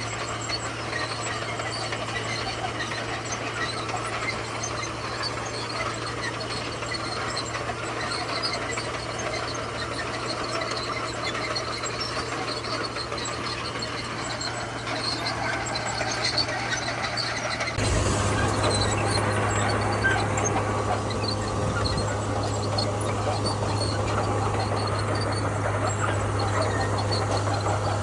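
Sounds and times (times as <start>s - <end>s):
bulldozer diesel engine hum: 0.0s - 28.0s
clattering and squeaks: 0.0s - 28.0s.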